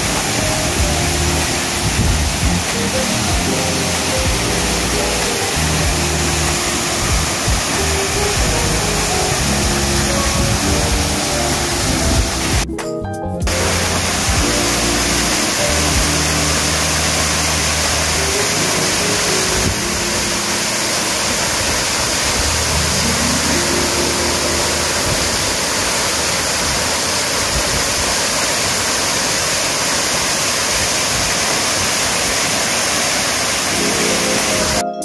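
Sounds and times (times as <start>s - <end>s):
waterfall rushing onto rock: 0.0s - 12.7s, 13.5s - 34.8s.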